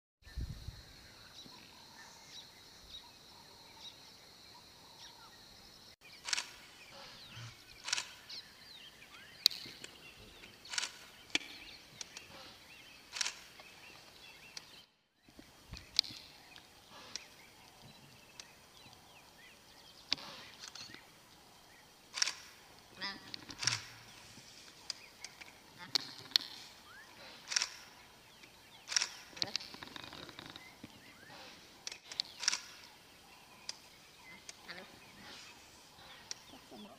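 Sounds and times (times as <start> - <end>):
faint chirping: 0.2 - 36.9.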